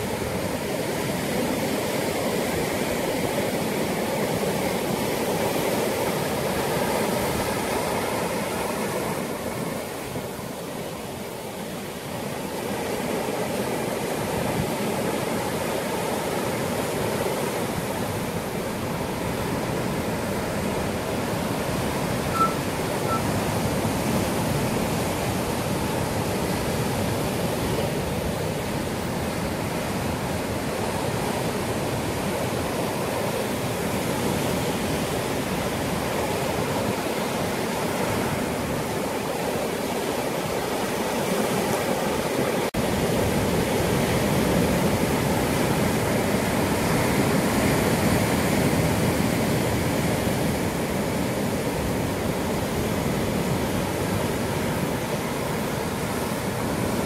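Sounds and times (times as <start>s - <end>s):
waves breaking over rocks: 0.0s - 57.0s.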